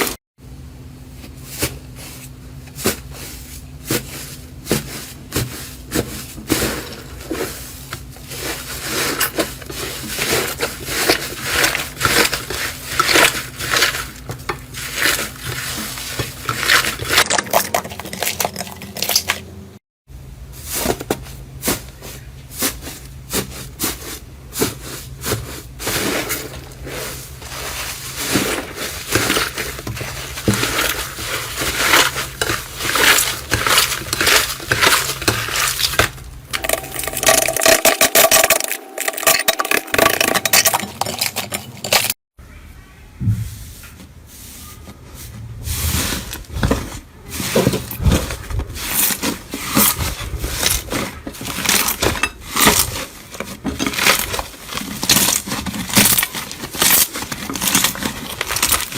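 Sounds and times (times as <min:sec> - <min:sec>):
material crunching and crackling: 0:01.3 - 0:19.2, 0:20.8 - 0:42.2, 0:45.4 - 0:58.9.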